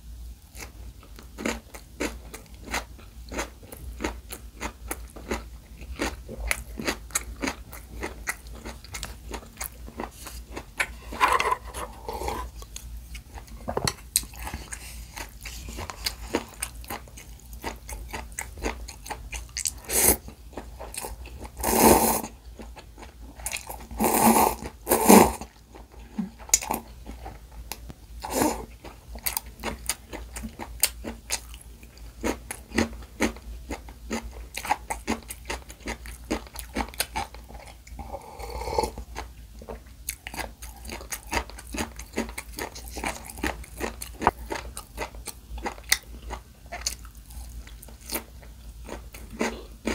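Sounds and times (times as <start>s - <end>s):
close chewing and crunching: 0.5s - 21.6s, 22.2s - 49.9s.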